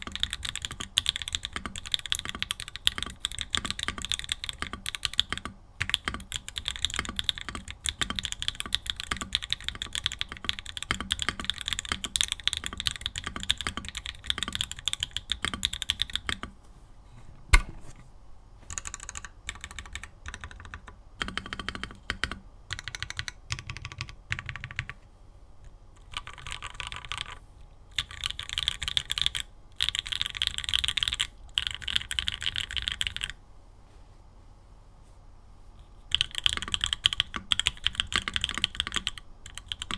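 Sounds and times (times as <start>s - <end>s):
mechanical keyboard typing: 0.0s - 16.5s, 18.7s - 25.0s, 26.0s - 33.4s, 36.1s - 39.9s.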